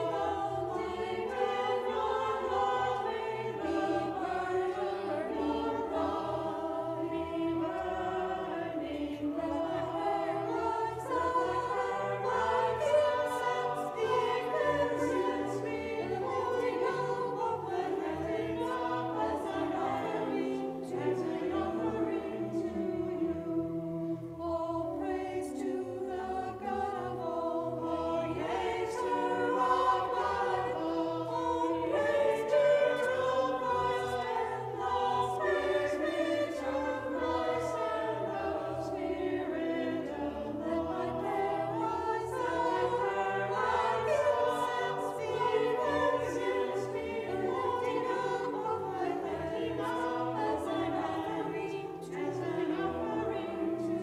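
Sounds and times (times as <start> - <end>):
small choir singing: 0.0 - 54.0.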